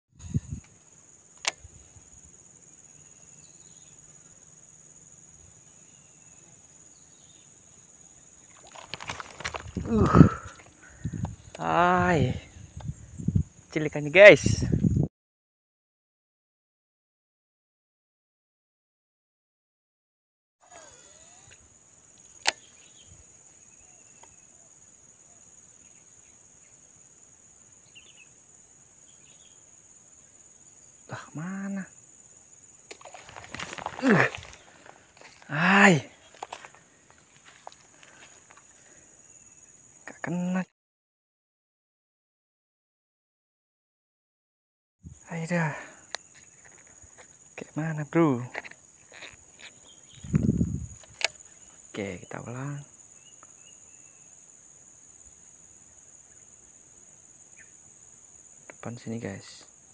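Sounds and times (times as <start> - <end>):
insects chirring: 0.1 - 15.1, 20.6 - 40.7, 45.0 - 59.9.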